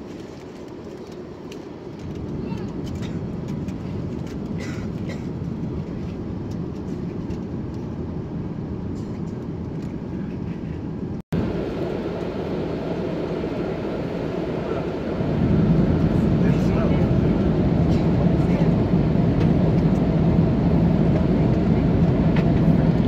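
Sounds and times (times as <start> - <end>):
airplane cabin roar: 0.0 - 23.0.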